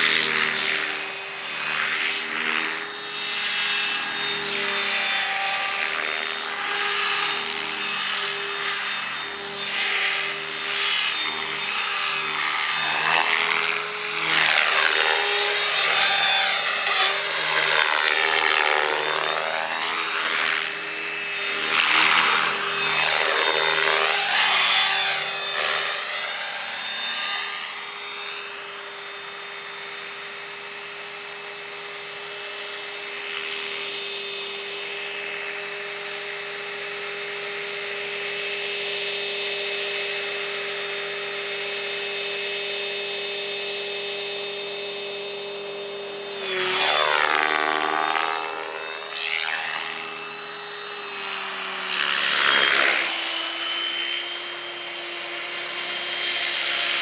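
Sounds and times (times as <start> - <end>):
rc helicopter whine: 0.0 - 57.0.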